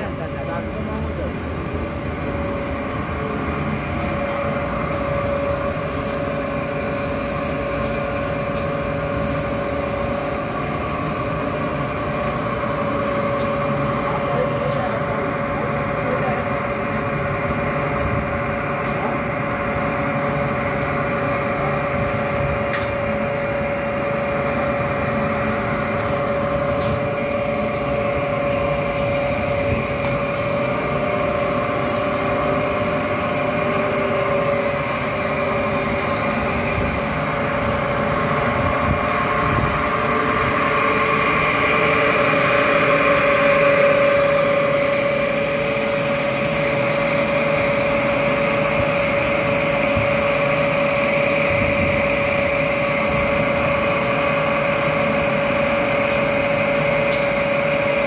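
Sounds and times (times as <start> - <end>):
blower fan whine: 0.0 - 58.0
machinery droning: 0.0 - 58.0.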